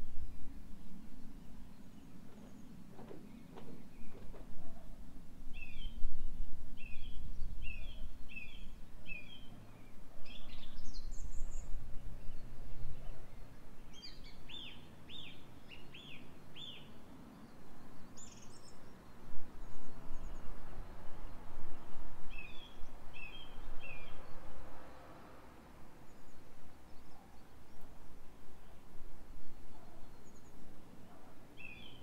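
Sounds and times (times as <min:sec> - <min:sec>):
low rumble of wind: 0:00.0 - 0:32.0
small birds chirping: 0:00.3 - 0:24.5, 0:26.0 - 0:32.0.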